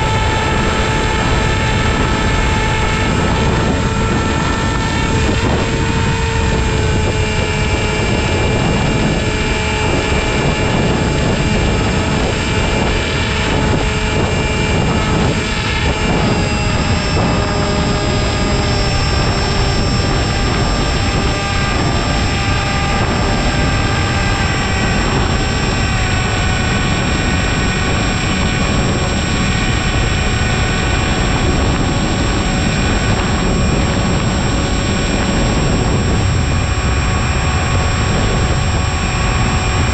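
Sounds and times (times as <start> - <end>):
model airplane motor whining: 0.0 - 39.9
wind rush: 0.0 - 39.9.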